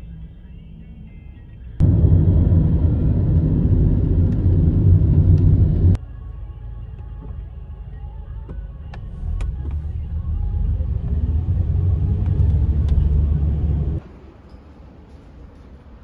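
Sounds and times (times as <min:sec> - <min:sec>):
car cabin road and engine rumble: 0:00.0 - 0:14.1.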